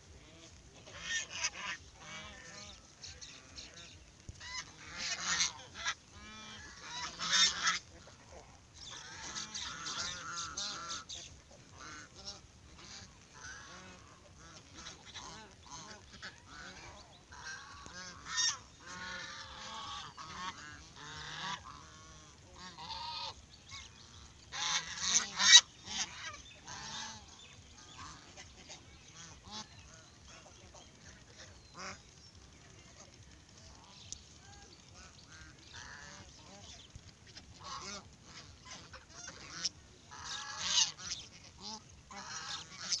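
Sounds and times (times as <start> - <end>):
geese honking: 0.0 - 43.0.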